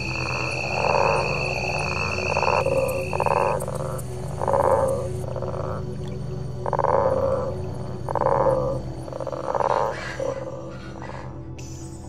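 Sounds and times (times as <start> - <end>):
frogs croaking: 0.0 - 12.0
insects trilling: 0.0 - 12.0.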